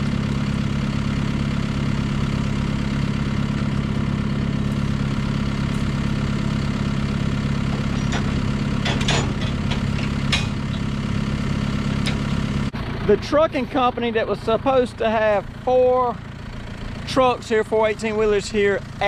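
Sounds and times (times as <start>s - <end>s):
farm vehicle engine running: 0.0s - 19.0s.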